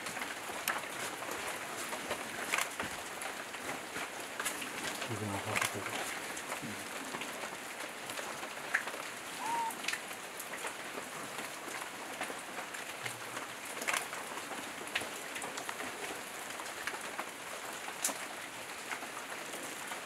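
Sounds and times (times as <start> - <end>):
rain on foliage: 0.0 - 20.0.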